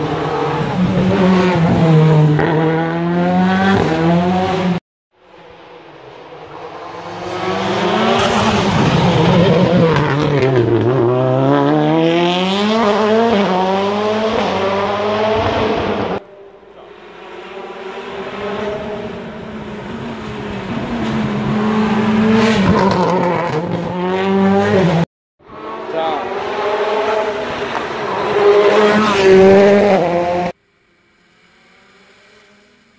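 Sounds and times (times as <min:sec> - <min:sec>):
rally car engine revving: 0:00.0 - 0:05.4, 0:06.1 - 0:30.6.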